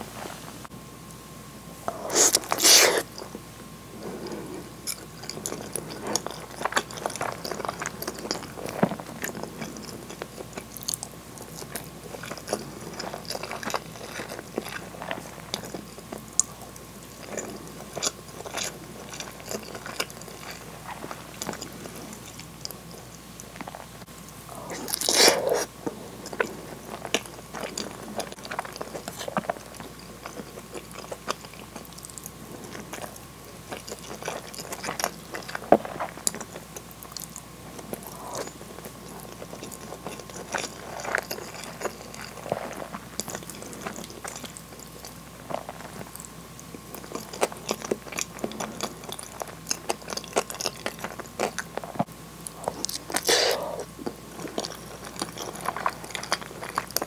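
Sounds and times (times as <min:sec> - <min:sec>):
close chewing with wet clicks: 0:04.0 - 0:57.0.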